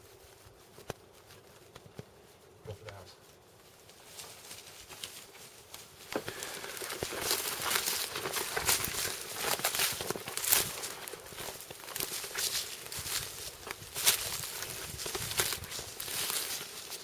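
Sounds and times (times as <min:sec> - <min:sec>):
crunching footsteps: 0:00.0 - 0:17.0
rustling: 0:00.0 - 0:17.0.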